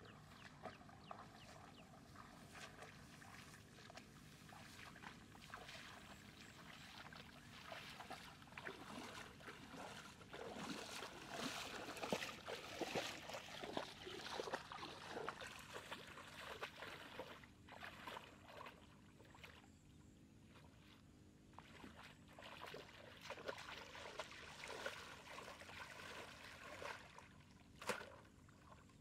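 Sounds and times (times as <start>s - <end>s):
wading through shallow water: 0.0s - 29.0s.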